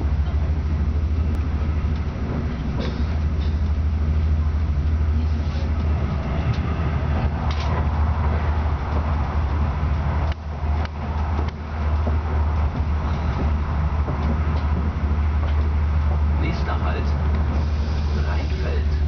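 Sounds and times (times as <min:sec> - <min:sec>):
train interior hum and rumble: 0:00.0 - 0:19.0.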